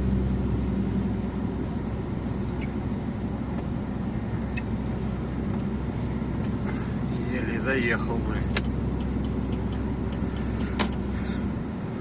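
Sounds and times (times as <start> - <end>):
truck diesel engine labouring: 0.0 - 12.0.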